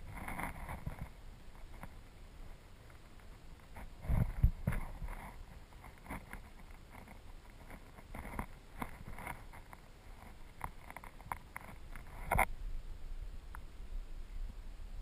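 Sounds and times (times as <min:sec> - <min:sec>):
low rumble of current: 0:00.0 - 0:15.0.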